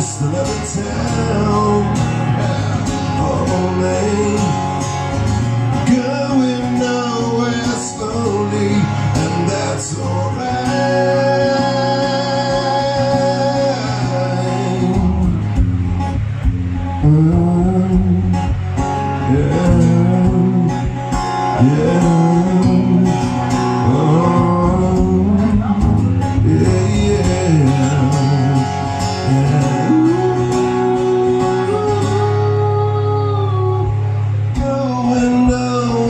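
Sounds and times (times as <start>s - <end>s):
steady bass: 0.0s - 36.0s
strummed acoustic guitar: 0.0s - 36.0s.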